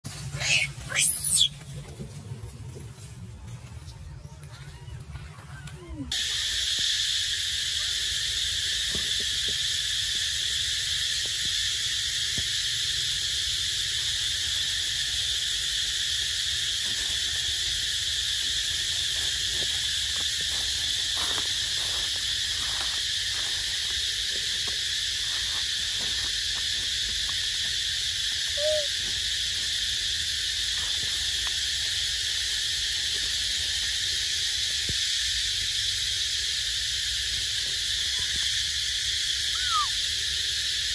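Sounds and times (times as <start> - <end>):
insect chorus drone: 0.1 - 2.2, 5.8 - 40.9.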